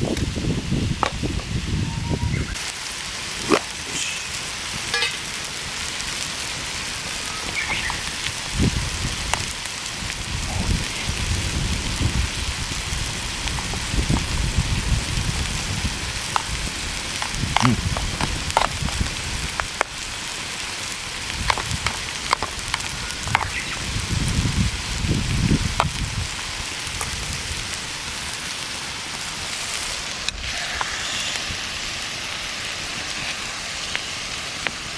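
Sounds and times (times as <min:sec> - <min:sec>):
burning wood crackling: 0:00.0 - 0:34.9
food sizzling in a pan: 0:00.0 - 0:34.9.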